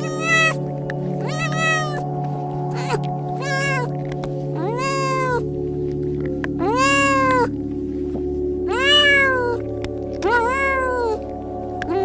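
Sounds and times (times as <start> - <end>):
cat meowing: 0.0 - 5.5, 6.6 - 7.6, 8.7 - 12.0.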